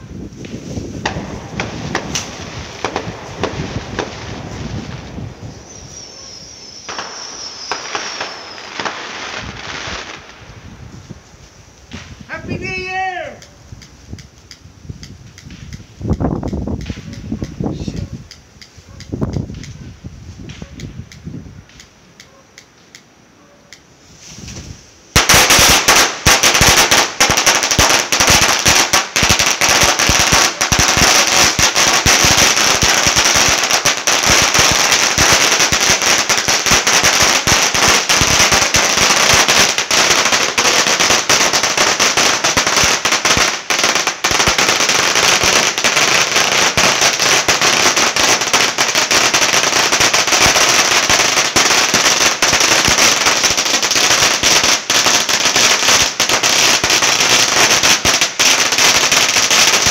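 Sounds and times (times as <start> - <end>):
firecrackers crackling: 0.0 - 23.2, 23.8 - 59.9.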